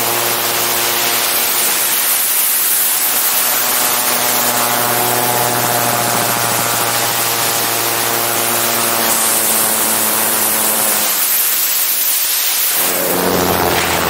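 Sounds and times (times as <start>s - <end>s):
aircraft engine running: 0.0s - 11.6s, 12.8s - 14.0s.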